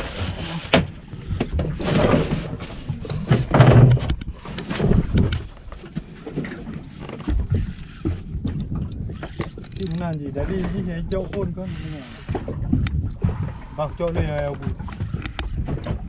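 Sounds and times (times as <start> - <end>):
rushes of wind and water: 0.0 - 16.0.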